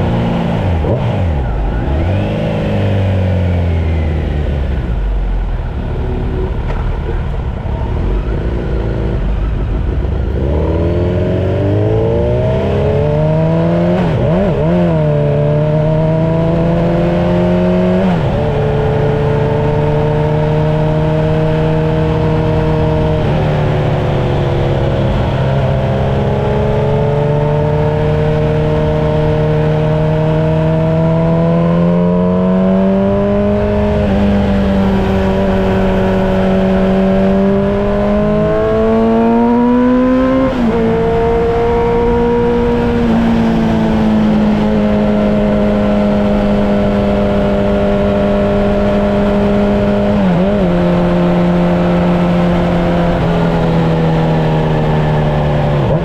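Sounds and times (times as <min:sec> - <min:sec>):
road and wind noise: 0:00.0 - 0:56.0
vehicle engine accelerating: 0:00.0 - 0:56.0.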